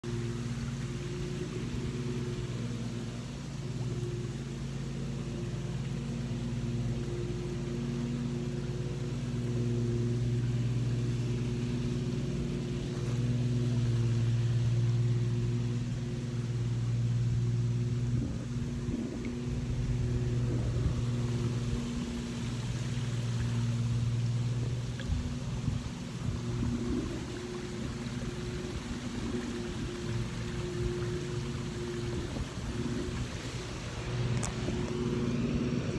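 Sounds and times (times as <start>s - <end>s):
low motor hum: 0.0s - 35.9s.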